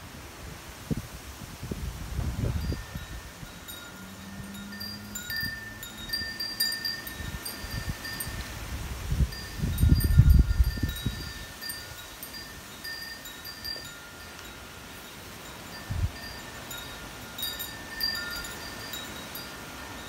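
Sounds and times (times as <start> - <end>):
wind rumbling on microphone: 0.0 - 20.0
wind chimes ringing: 2.5 - 20.0.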